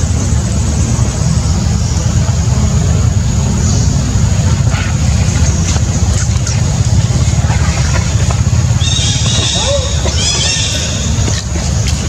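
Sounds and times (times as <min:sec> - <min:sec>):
loud low rumbling: 0:00.0 - 0:12.0.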